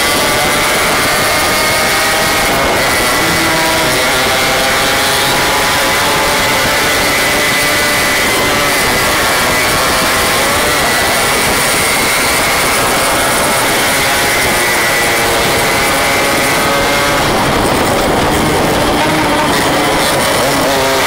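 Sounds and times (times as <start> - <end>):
motorcycle engines buzzing: 0.0 - 21.0.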